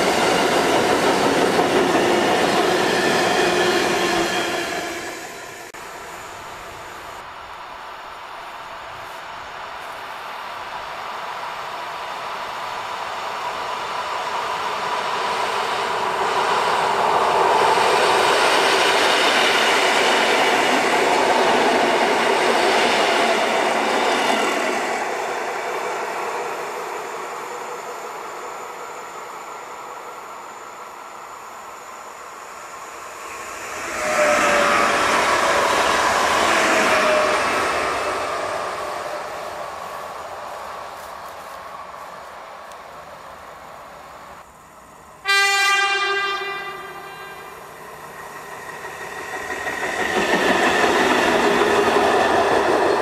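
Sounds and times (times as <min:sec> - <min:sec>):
steady train tones: 0:00.0 - 0:53.0
train wheels on rails: 0:00.0 - 0:53.0.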